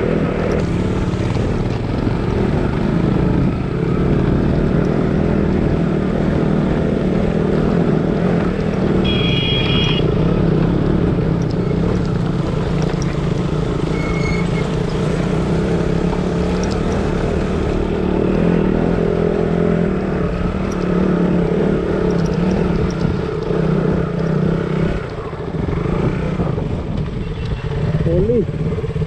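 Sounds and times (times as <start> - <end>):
motorcycle engine running: 0.0 - 29.0
road and wind noise: 0.0 - 29.0.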